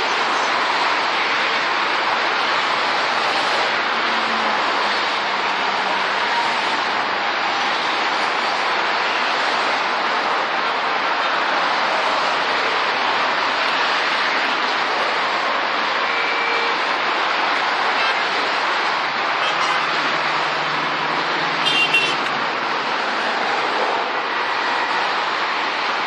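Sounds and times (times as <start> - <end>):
freeway traffic rush: 0.0 - 26.0.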